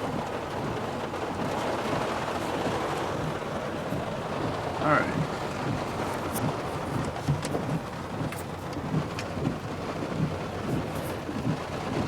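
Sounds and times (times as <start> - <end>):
heavy rain on a truck: 0.0 - 12.0.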